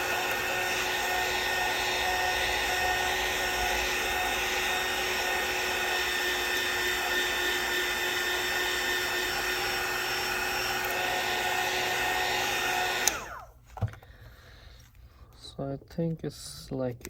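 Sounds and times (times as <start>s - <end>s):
hot-air blower running: 0.0s - 14.0s.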